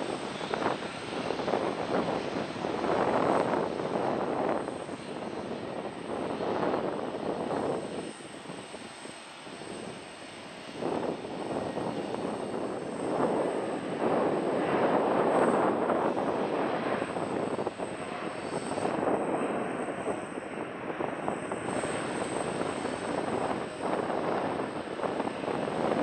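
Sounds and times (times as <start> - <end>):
airliner engines rushing by: 0.0 - 26.0.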